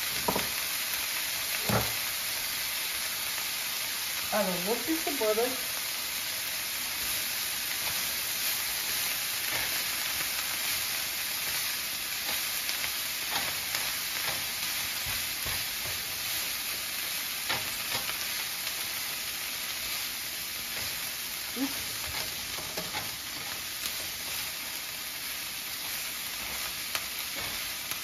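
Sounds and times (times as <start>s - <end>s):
greens sizzling in butter: 0.0s - 28.0s.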